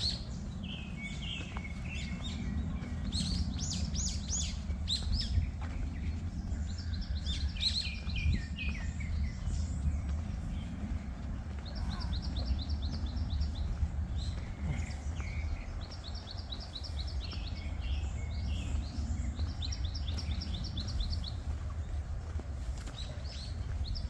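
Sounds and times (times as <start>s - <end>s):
low rumble: 0.0s - 24.0s
small birds chirping: 0.0s - 24.0s.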